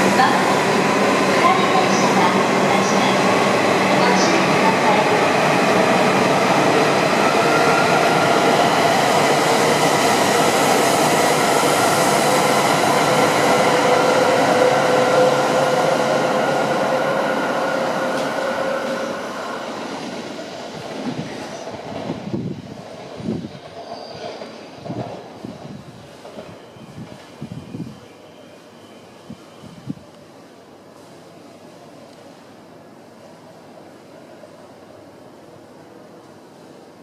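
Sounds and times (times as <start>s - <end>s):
high-speed train rushing past: 0.0s - 37.0s.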